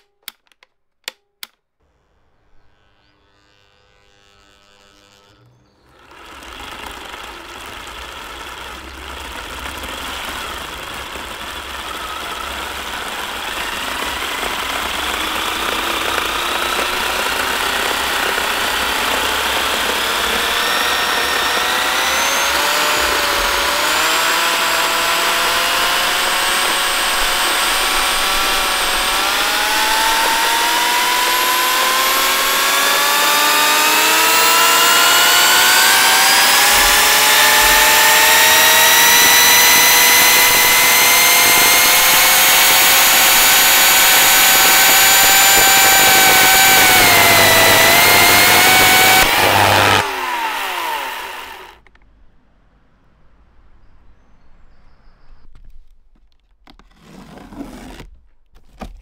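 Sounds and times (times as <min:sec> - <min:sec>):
electric chainsaw motor whine: 0:02.1 - 0:51.9.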